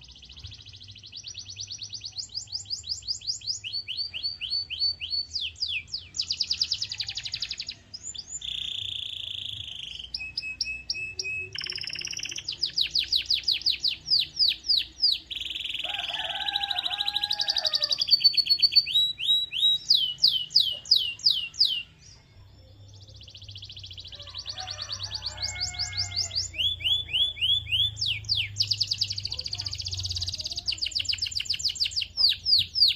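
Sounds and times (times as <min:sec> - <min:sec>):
canary singing: 0:00.0 - 0:32.9.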